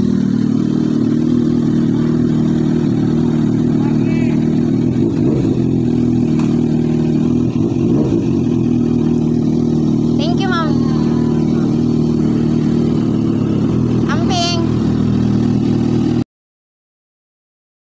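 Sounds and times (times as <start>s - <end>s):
motorcycle engine idling: 0.0s - 16.2s.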